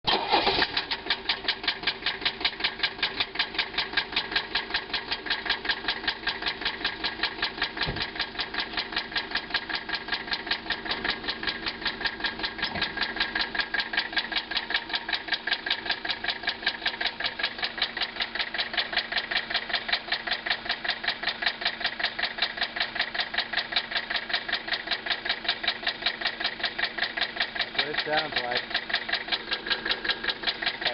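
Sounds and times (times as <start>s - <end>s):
diesel engine knocking: 0.1s - 30.9s.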